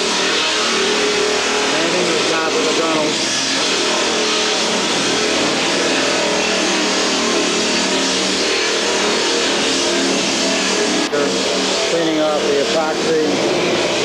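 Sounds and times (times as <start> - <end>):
power tool working wood: 0.0 - 14.0.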